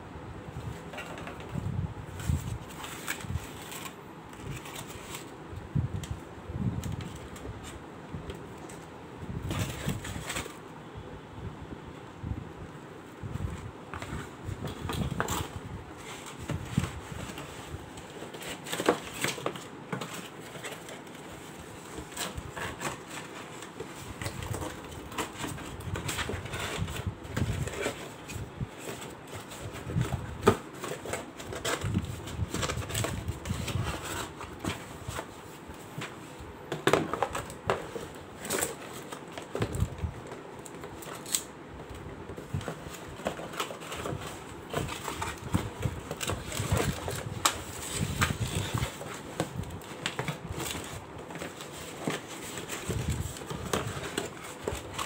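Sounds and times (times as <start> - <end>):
cardboard crackling and rustling: 0.5 - 10.7, 13.0 - 55.0.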